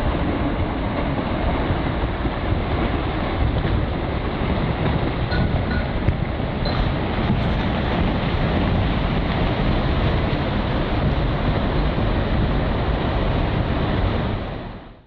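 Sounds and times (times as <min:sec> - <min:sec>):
wind blasting over microphone: 0:00.0 - 0:15.0.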